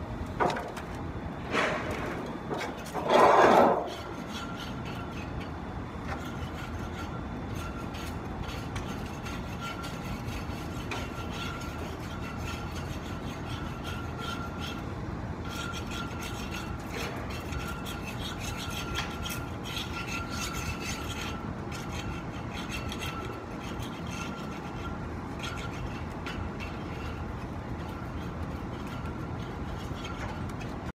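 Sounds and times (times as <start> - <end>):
steady low hum: 0.0 - 30.9
hand scraping a surface: 1.4 - 5.4, 6.2 - 30.9.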